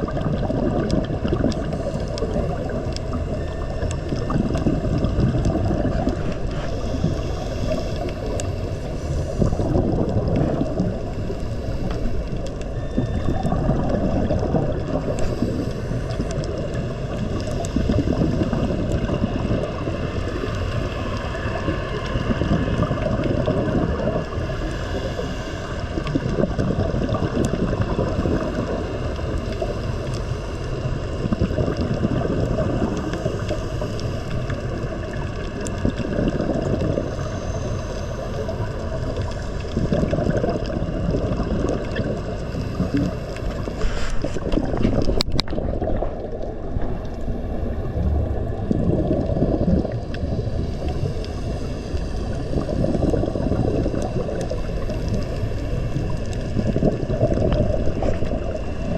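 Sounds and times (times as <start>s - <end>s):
muffled rumble of water: 0.0s - 58.9s.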